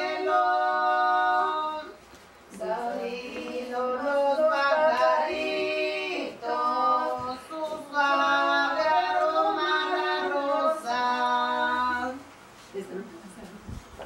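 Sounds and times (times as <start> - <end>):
women singing together: 0.0 - 12.5.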